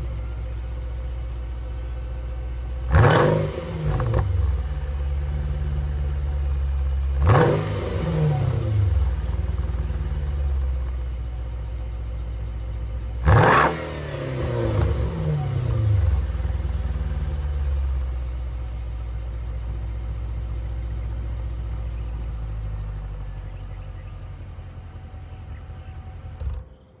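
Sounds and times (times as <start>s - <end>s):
car engine exhaust idling: 0.0s - 26.6s.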